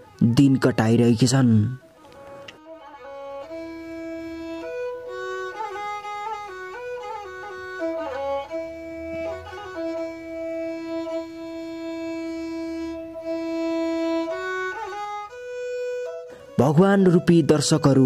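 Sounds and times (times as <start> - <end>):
slow instrumental melody: 0.0 - 18.0.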